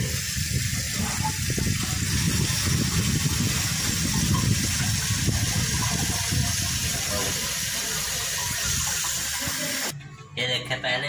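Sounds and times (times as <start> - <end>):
tap water running into metal tank: 0.0 - 9.9.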